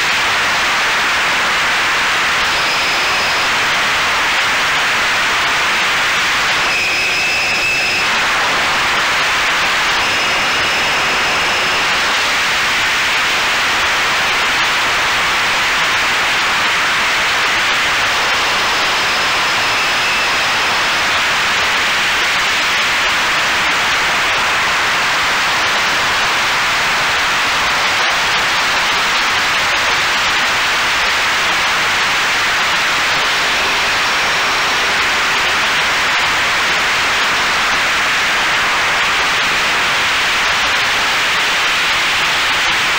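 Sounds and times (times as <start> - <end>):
faint high whines: 0.0 - 42.9.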